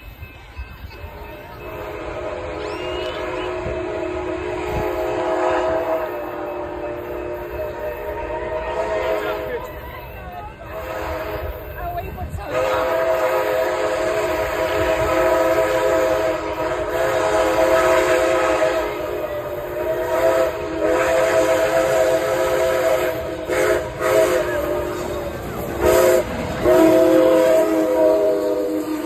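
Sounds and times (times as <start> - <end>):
steam locomotive whistle: 0.9 - 29.0.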